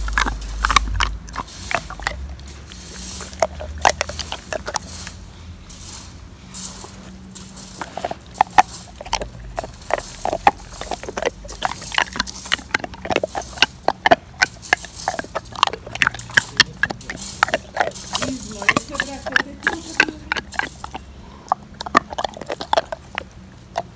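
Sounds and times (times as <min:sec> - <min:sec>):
dog clicking and snuffling: 0:00.0 - 0:23.9.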